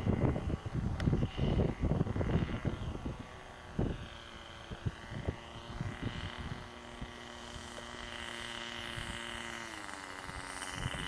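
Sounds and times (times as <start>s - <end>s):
model plane engine whine: 0.0s - 11.0s
wind buffeting microphone: 0.0s - 11.0s.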